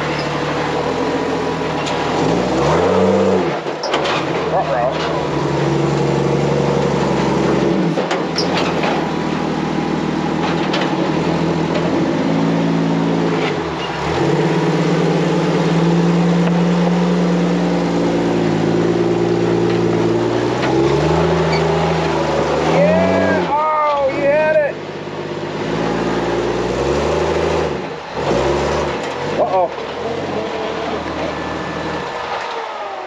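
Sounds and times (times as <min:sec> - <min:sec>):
buggy engine revving: 0:00.0 - 0:33.0.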